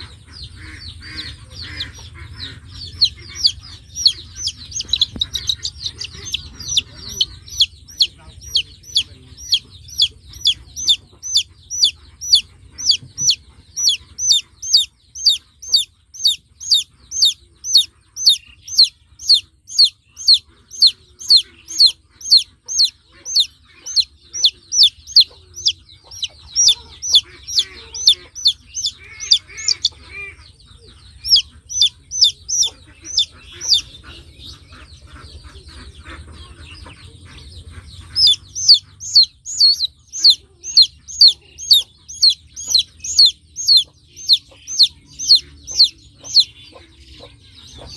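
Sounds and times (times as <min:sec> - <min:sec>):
chick peeping: 0:00.0 - 0:47.9.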